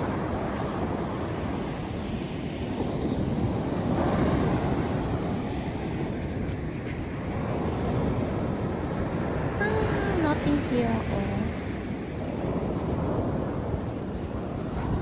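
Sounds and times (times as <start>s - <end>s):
wind buffeting microphone: 0.0s - 10.6s, 11.4s - 15.0s
surf washing on shore: 0.0s - 15.0s.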